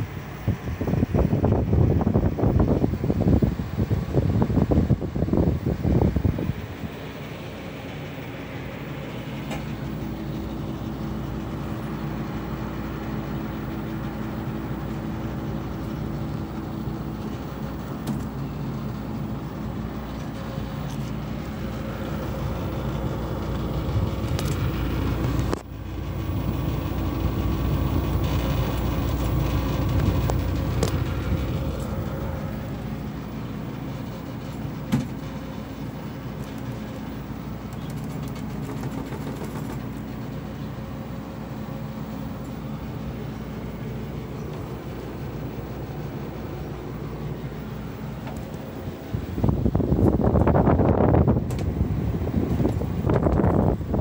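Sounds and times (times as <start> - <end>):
machine humming: 6.3 - 54.0.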